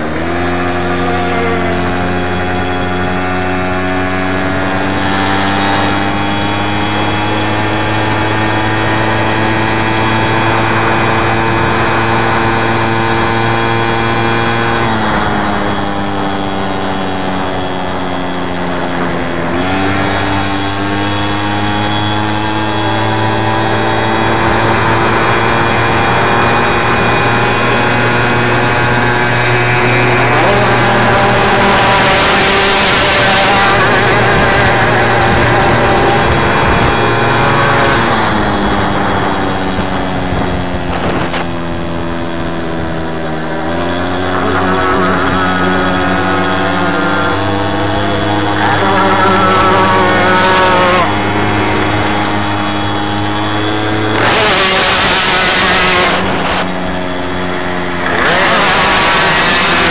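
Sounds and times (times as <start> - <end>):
moped engine running: 0.0 - 59.9.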